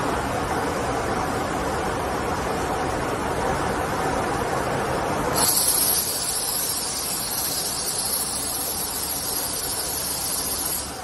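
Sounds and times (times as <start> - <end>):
machine running low noise: 0.0 - 11.0
steady high hiss: 0.0 - 11.0.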